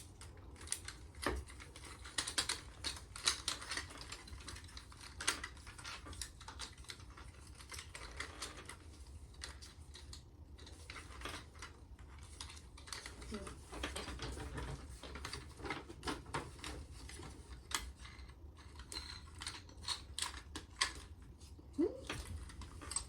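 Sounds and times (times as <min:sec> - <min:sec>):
plastic parts clicking and rattling: 0:00.0 - 0:21.3, 0:22.0 - 0:23.0.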